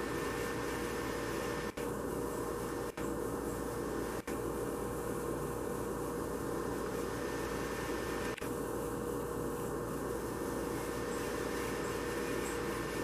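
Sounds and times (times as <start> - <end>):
constant hum: 0.0 - 13.0
steady hiss: 0.0 - 13.0.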